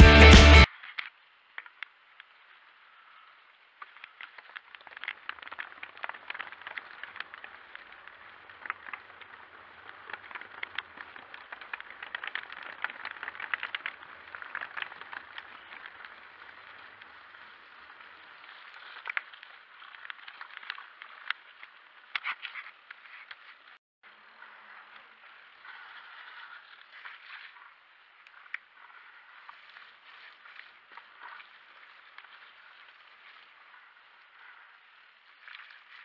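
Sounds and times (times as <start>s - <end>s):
bike tyres rolling on gravel: 0.0s - 36.0s.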